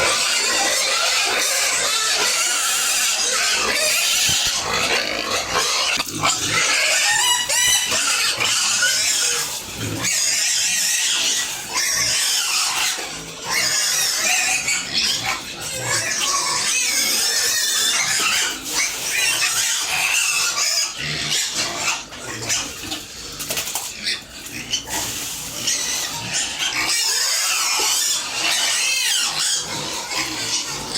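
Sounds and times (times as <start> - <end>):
pigs squealing: 0.0 - 30.9.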